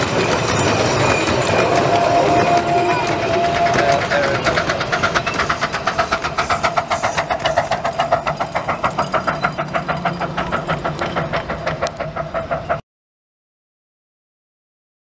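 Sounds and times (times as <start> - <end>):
miniature steam locomotive chuffing: 0.0 - 12.8.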